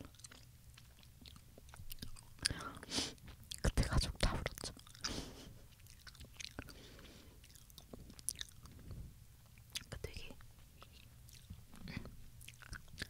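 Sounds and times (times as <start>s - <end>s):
gummy candy being chewed: 0.0s - 13.0s.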